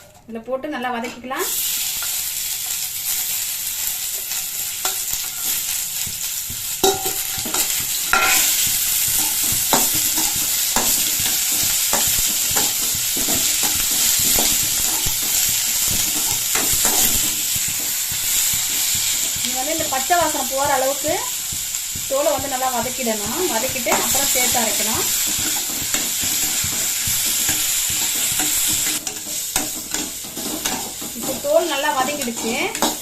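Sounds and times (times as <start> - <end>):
frying in hot oil: 1.0 - 33.0
spatula tapping and scraping: 4.2 - 33.0.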